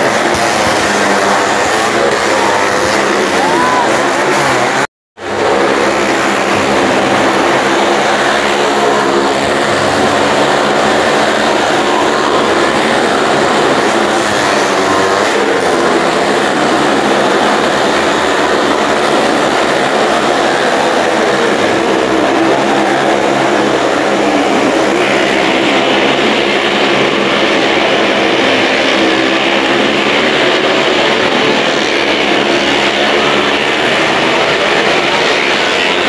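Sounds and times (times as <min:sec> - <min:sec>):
motorcycle engines droning: 0:00.0 - 0:36.0.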